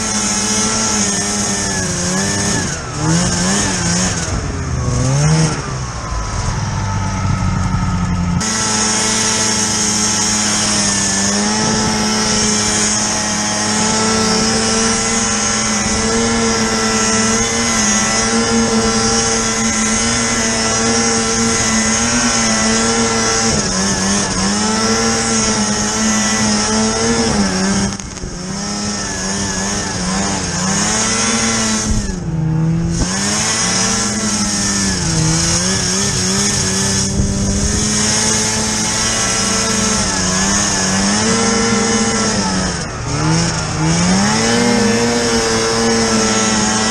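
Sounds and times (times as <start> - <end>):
track hissing on snow: 0.0 - 5.7, 8.4 - 46.9
snowmobile engine revving: 0.0 - 46.9.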